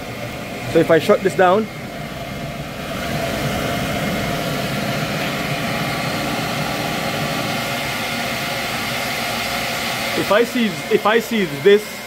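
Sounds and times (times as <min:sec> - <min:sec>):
gas burner blower whirring: 0:00.0 - 0:12.0.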